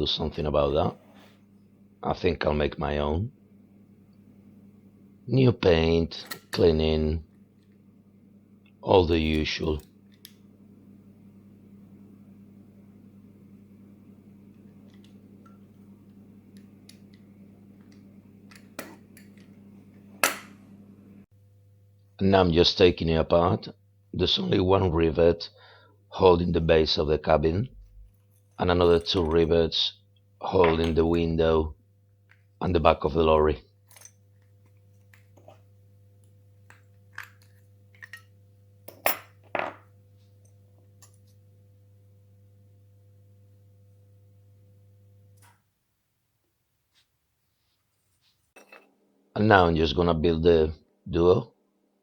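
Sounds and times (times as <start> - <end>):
steady low hum: 0.0 - 45.4.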